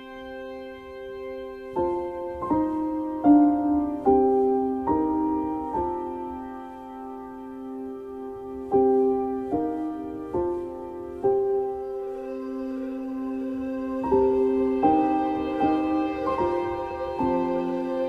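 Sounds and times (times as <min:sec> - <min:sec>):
slow gentle piano: 0:00.0 - 0:18.0.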